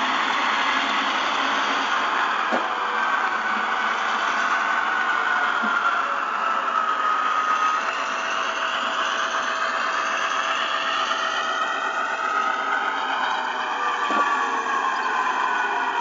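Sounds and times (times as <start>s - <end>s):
model train motor whine: 0.0s - 16.0s
wheels on rails: 0.0s - 16.0s.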